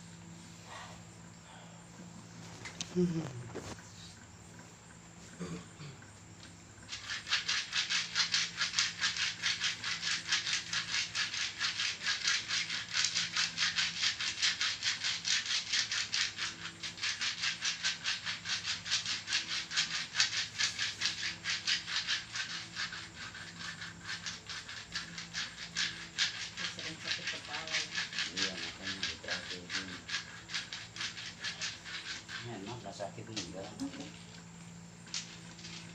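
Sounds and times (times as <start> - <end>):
seeds rattling rubbed over body: 2.1 - 5.6, 6.8 - 35.9.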